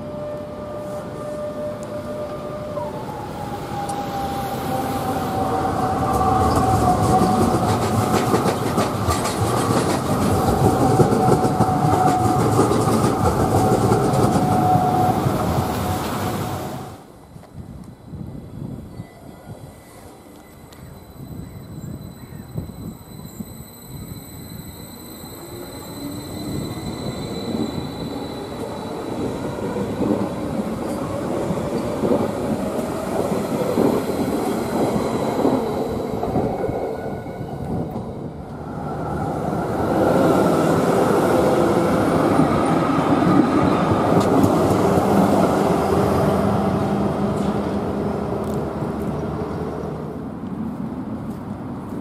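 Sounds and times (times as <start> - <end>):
train wheels on rails: 0.0 - 18.0, 19.4 - 52.0.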